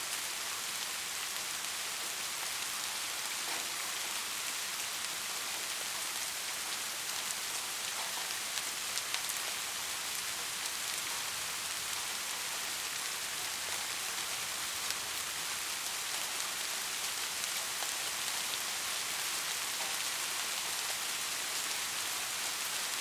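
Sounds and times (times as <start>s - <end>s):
steady rain hiss: 0.0s - 23.0s
raindrops ticking close by: 1.0s - 23.0s.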